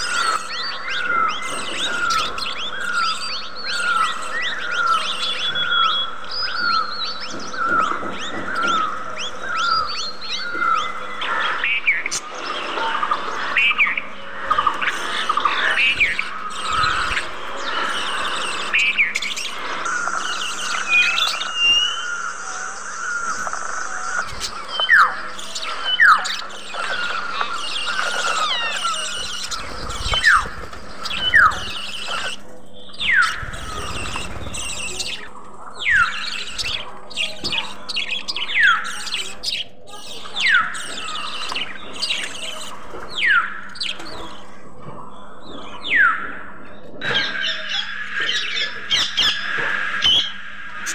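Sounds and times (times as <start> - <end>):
budgerigars chirping and warbling: 0.0 - 50.9.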